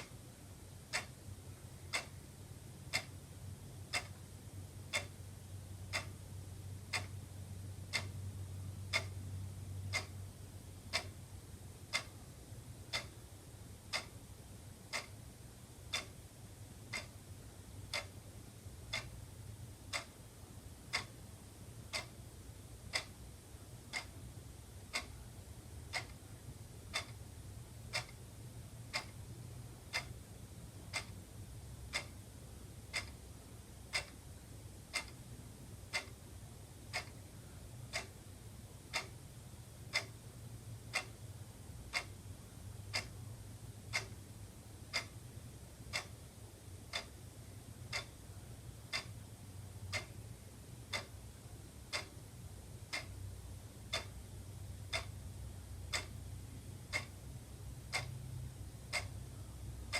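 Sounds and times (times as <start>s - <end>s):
faint low hum: 0.0s - 59.9s
wall clock ticking: 0.0s - 59.9s.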